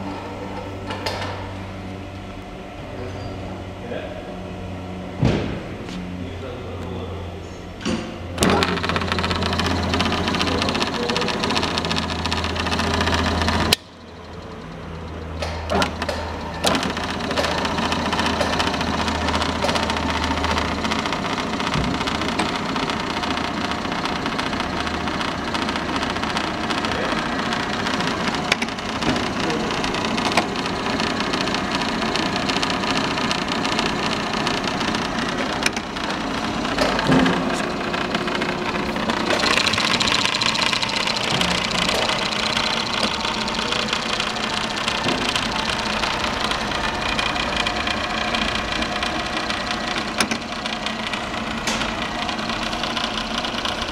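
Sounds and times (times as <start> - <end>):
drill press motor running: 0.0 - 6.8, 7.7 - 53.9.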